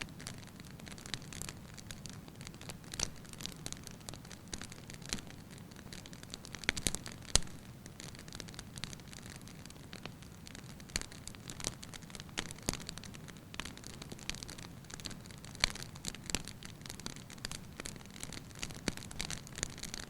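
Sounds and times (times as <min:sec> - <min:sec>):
burning logs crackling: 0:00.0 - 0:20.0.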